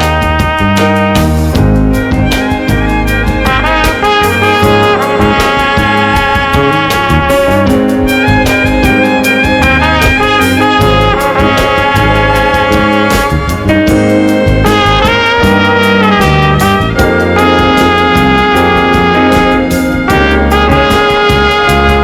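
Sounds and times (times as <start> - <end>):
brass band music: 0.0 - 22.0.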